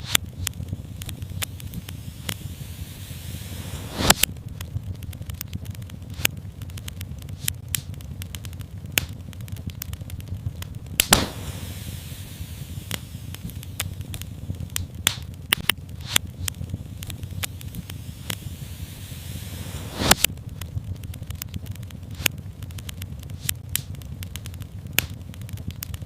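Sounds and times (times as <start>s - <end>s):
low rumble of flames: 0.0s - 26.0s
sharp pops of fire: 0.0s - 26.0s
wood fire crackling: 0.0s - 26.0s.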